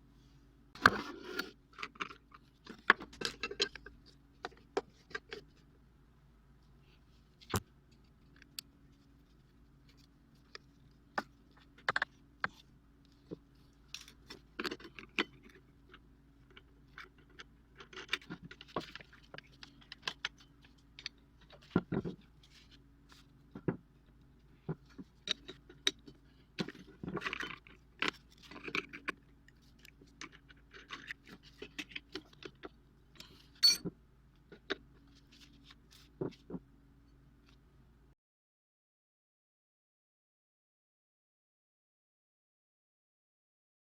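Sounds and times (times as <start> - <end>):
faint low hum: 0.0 - 38.2.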